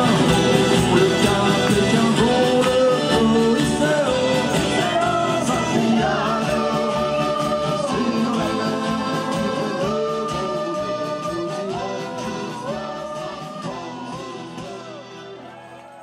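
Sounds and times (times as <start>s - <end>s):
pop rock band with singing: 0.0s - 16.0s.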